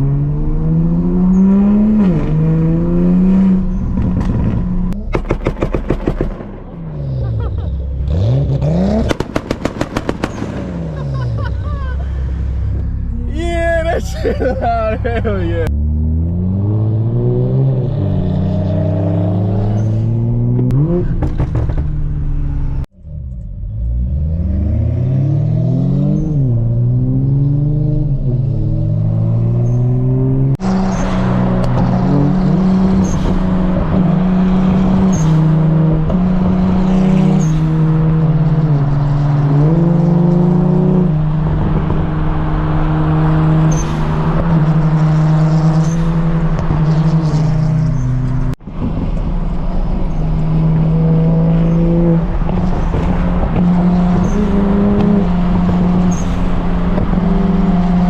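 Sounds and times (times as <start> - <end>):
car engine revving: 0.0 - 5.0, 6.8 - 11.5, 14.7 - 58.0.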